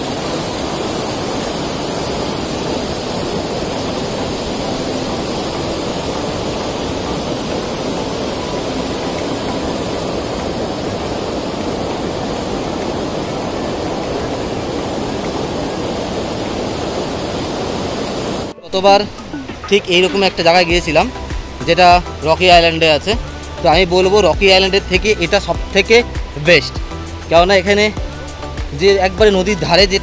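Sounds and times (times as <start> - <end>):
river rushing over boulders: 0.0 - 24.6.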